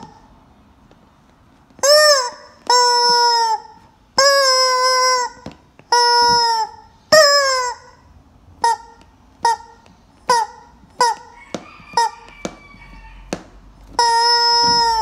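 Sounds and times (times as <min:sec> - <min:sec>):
rubber chicken toy squawking: 0:00.0 - 0:00.3, 0:01.8 - 0:15.0.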